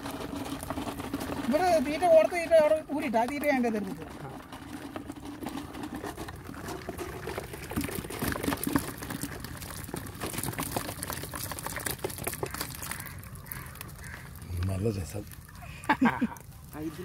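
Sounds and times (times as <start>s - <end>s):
fish splashing in a bucket: 0.0s - 17.0s
water pouring and dripping: 0.0s - 17.0s.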